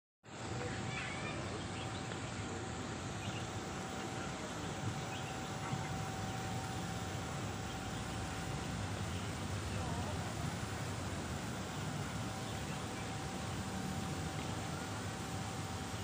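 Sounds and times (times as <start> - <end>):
hiss of background noise: 0.3 - 16.0
thin steady tone: 0.3 - 16.0.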